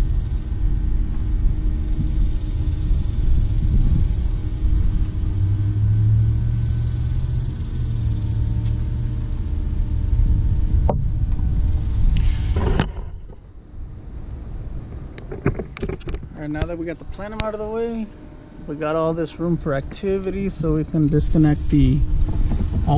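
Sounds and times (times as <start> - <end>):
motor vehicle engine rumble: 0.0 - 22.9.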